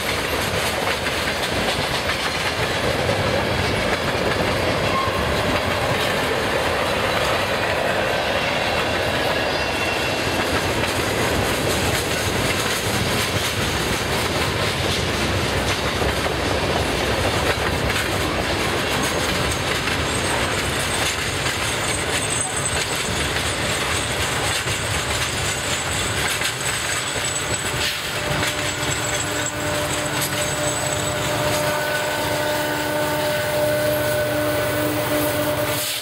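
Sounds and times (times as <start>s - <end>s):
wheels clicking over rail joints: 0.0s - 9.0s, 10.2s - 33.7s
steel wheels rumbling on rail: 0.0s - 36.0s.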